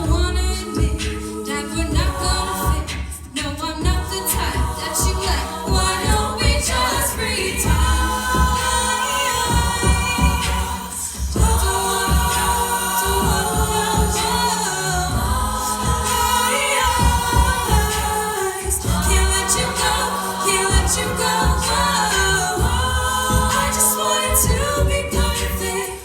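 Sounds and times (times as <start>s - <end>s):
low vocal beat and clicks: 0.0s - 26.0s
women singing in close harmony: 0.0s - 26.0s.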